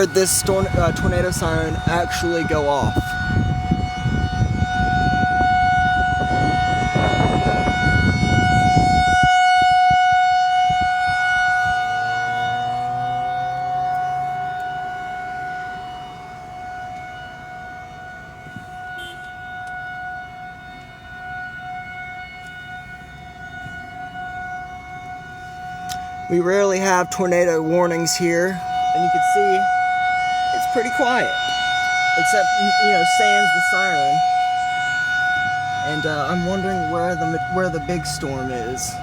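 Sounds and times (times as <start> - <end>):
tornado warning siren: 0.0 - 39.0.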